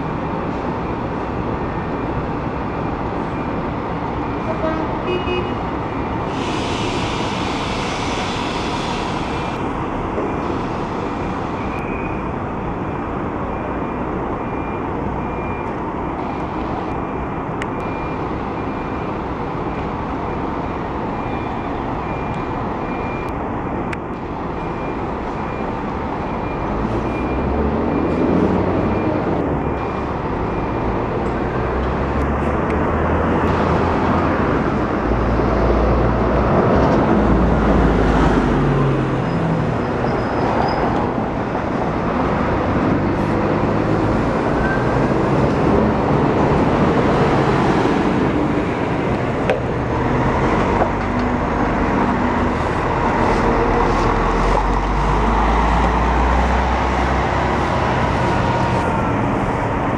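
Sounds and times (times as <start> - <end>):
diesel bus engine rumble: 0.0 - 59.9.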